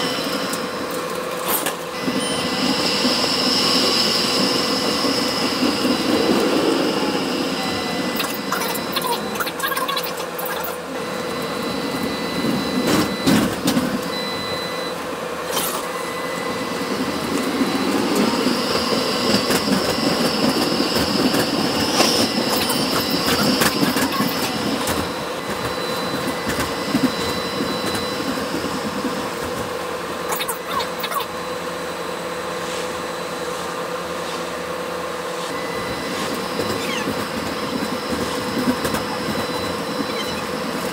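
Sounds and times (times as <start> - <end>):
tram rolling rumble: 0.0 - 31.4, 32.1 - 40.9
high-pitched whine: 0.0 - 32.4, 34.8 - 40.9.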